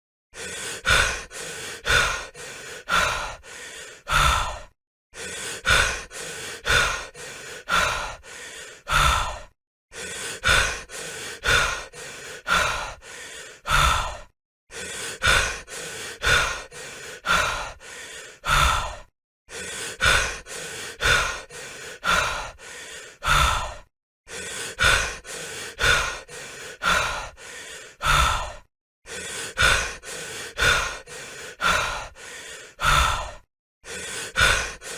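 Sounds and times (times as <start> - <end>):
person breathing heavily: 0.4 - 34.9.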